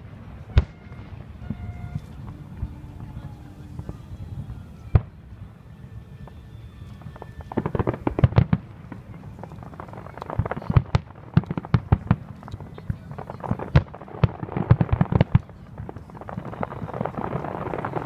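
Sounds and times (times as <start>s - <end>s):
fireworks bangs and crackling pops: 0.0s - 5.3s, 6.0s - 18.0s.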